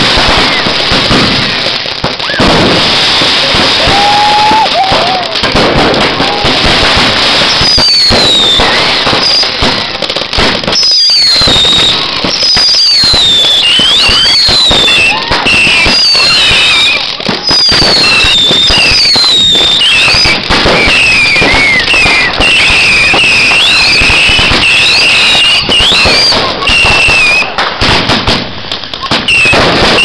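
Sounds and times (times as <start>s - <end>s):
fireworks cracking and banging: 0.0s - 30.0s
fireworks whistling: 0.0s - 30.0s.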